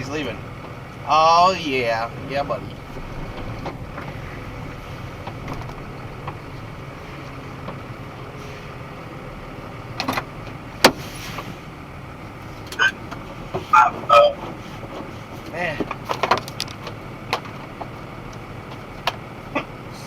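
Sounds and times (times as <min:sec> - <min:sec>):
truck engine rumbling: 0:00.0 - 0:20.0.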